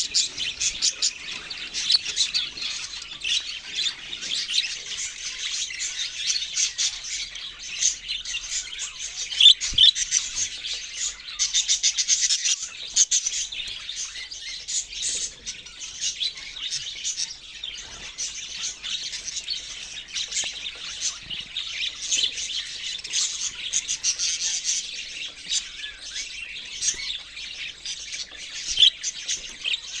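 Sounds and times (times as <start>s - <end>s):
budgerigars chirping and chattering: 0.0s - 30.0s.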